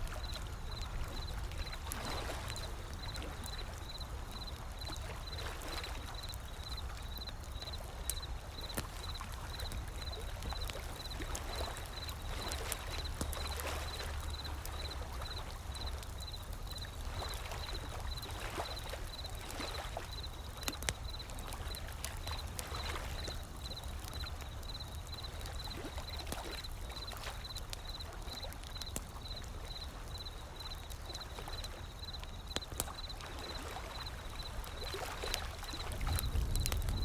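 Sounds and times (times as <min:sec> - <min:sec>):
ocean waves: 0:00.0 - 0:23.9, 0:29.2 - 0:37.0
wood fire crackling and popping: 0:00.0 - 0:37.0.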